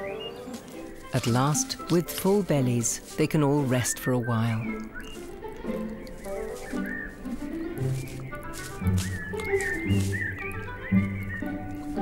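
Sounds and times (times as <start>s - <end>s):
slow held-note background music: 0.0s - 12.0s.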